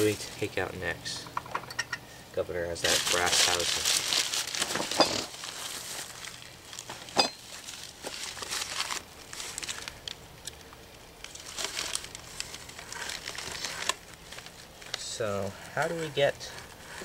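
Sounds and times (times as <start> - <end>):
crinkling and rustling: 2.8 - 17.0.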